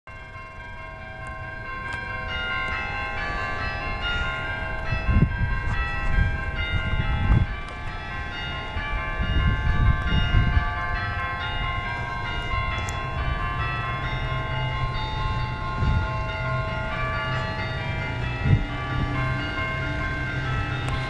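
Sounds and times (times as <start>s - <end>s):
church bells pealing: 0.1s - 21.0s.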